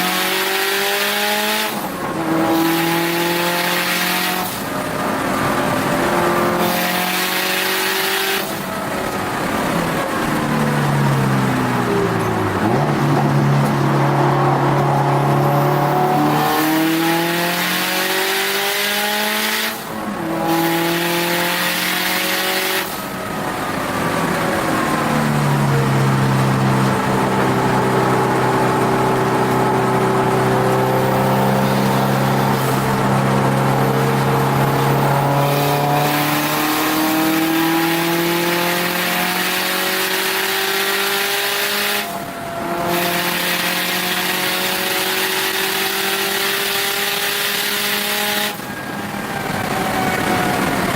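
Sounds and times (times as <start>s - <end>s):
race car engine from inside cabin: 0.0s - 50.9s.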